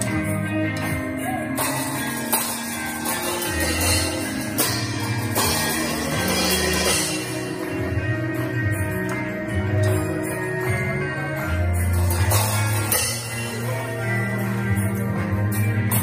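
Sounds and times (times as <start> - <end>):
drum kit with cymbals: 0.0 - 16.0
music with held bass notes: 0.0 - 16.0.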